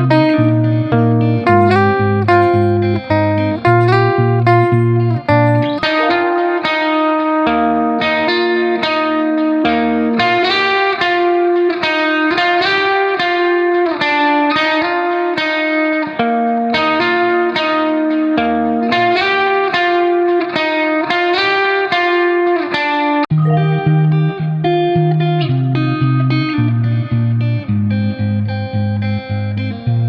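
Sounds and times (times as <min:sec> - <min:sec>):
plucked guitar music: 0:00.0 - 0:30.0.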